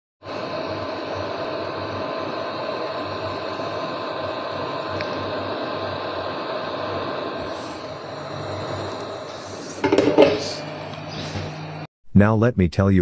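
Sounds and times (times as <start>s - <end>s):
faint hum: 0.2s - 11.9s
fan whirring: 0.2s - 11.9s.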